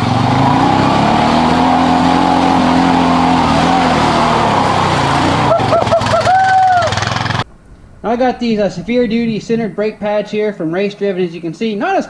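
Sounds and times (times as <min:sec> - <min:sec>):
utility vehicle engine running: 0:00.0 - 0:10.2.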